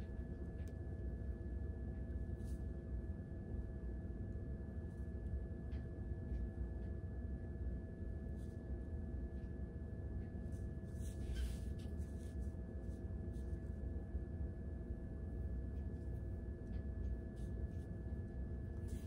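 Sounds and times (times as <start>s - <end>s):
faint constant tone: 0.0s - 19.0s
low background hum: 0.0s - 19.0s.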